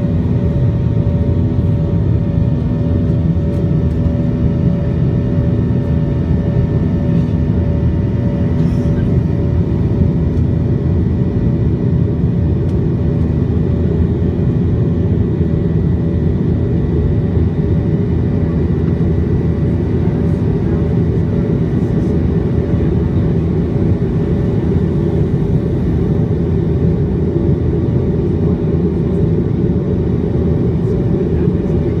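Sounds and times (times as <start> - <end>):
airliner engines at takeoff: 0.0 - 32.0.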